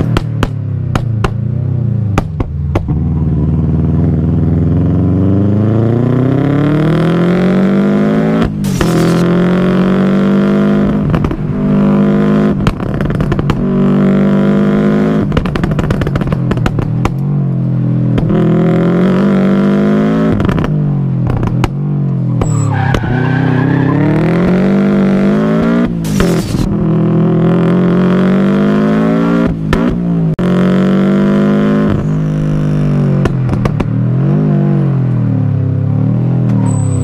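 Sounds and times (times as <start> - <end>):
car engine revving: 2.1 - 37.0.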